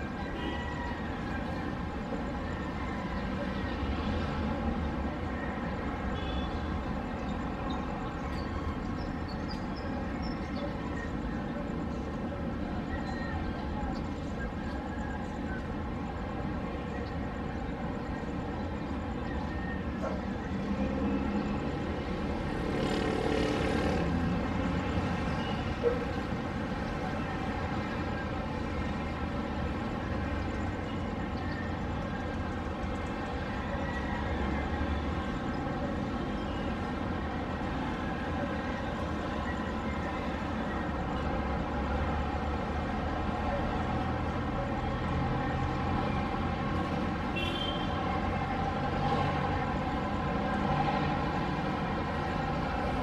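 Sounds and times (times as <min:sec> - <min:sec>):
distant city traffic rumble: 0:00.0 - 0:53.0.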